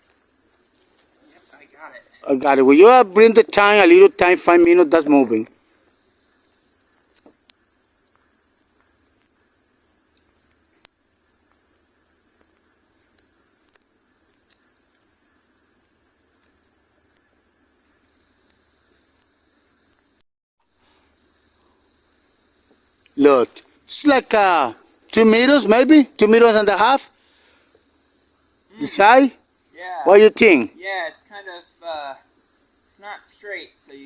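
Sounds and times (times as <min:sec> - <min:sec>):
night insects trilling: 0:00.0 - 0:34.0.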